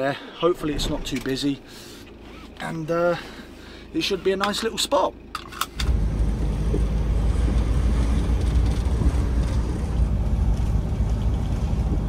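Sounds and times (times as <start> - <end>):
engine and road rumble in van: 0.0 - 12.0.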